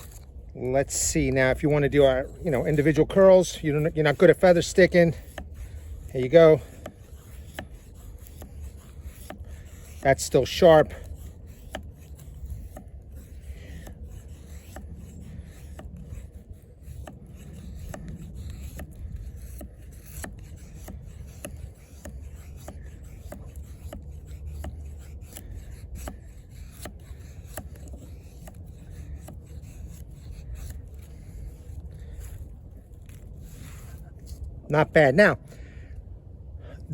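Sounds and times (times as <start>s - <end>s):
knife shaving wood: 0.0s - 36.9s.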